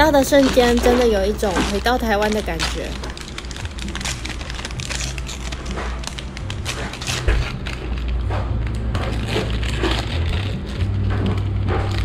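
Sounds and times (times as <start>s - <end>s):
paper bag tearing and rustling: 0.0s - 12.0s.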